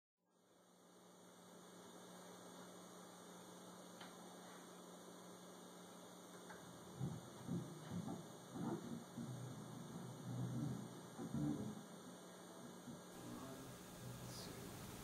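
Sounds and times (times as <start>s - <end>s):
faint electrical mains hum: 0.3s - 15.0s.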